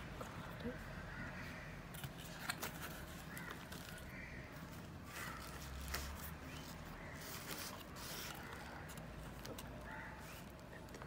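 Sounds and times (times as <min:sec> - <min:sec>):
cardboard and bubble wrap rustling: 0:02.0 - 0:11.0.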